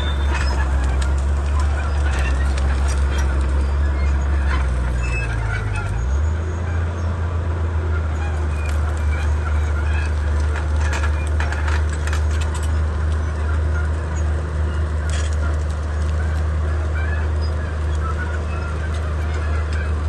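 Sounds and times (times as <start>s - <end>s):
machine clanks and squeaks: 0.0s - 7.2s, 7.9s - 20.0s
diesel engine running: 0.0s - 20.0s.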